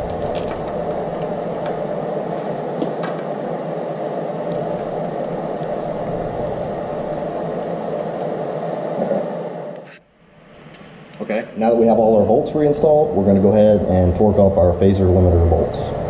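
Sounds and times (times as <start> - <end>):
steady whirring: 0.0 - 16.0.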